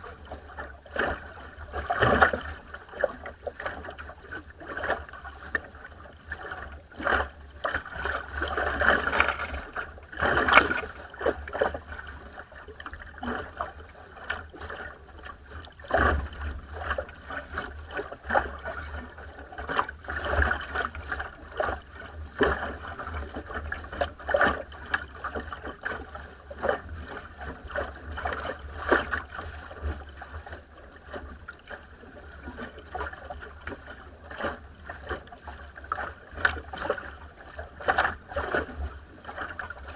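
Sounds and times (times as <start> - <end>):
boat rushing through water: 0.0 - 39.9
hull slapping waves: 0.0 - 39.9.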